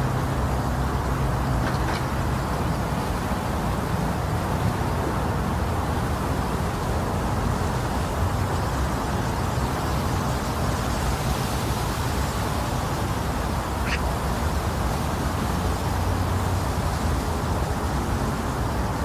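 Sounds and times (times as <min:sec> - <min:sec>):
white noise rushing hiss: 0:00.0 - 0:19.0.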